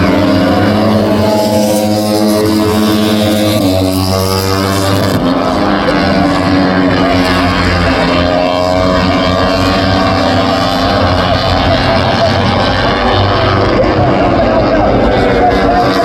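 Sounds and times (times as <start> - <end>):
motorcycle engines at high revs: 0.0 - 16.0.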